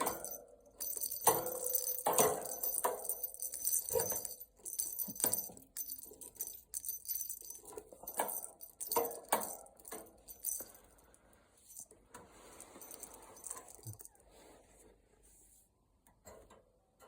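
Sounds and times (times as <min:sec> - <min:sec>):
metallic clinks and jingles: 0:00.0 - 0:14.2.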